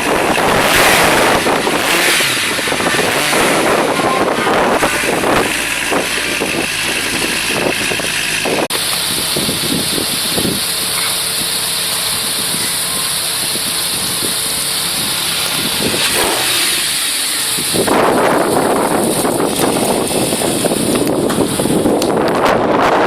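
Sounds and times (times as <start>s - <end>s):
rushing wind noise: 0.0s - 23.0s
sports car engine running: 0.0s - 23.0s.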